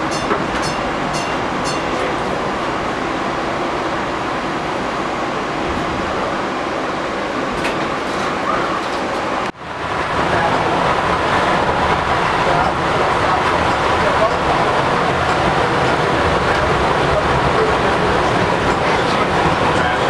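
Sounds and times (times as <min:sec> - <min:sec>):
train running inside car: 0:00.0 - 0:20.0.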